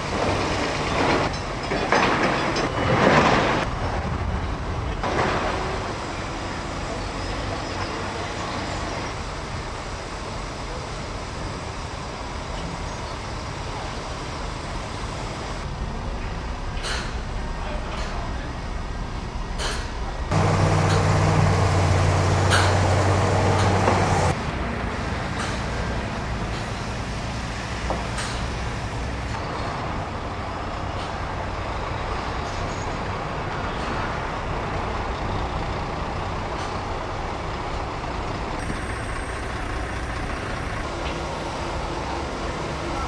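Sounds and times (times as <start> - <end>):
heavy truck engine running: 0.0 - 43.0.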